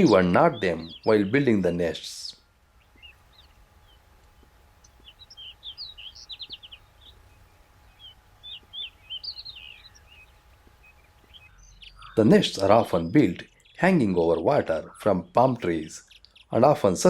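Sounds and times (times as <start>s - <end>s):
birds chirping: 0.0s - 17.0s
faint low background noise: 0.0s - 17.0s.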